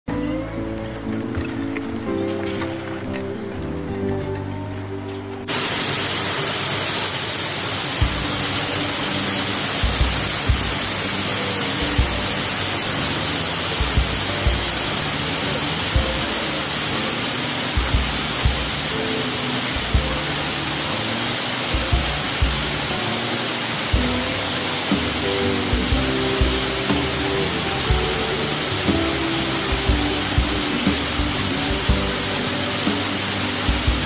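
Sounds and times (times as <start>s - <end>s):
faint music: 0.1s - 34.0s
waterfall roaring: 5.5s - 34.0s.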